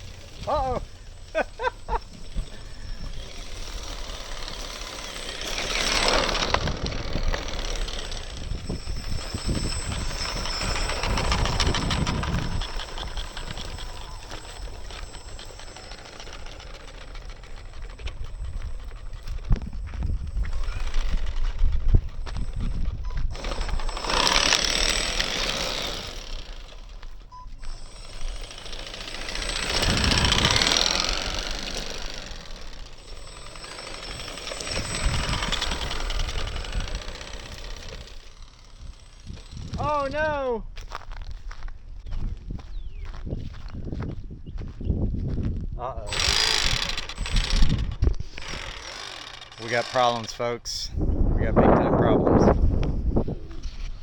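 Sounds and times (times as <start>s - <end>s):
remote control truck motor: 0.0s - 40.3s, 46.0s - 51.0s
wheels rattling over rocks: 0.0s - 41.2s, 46.0s - 51.0s.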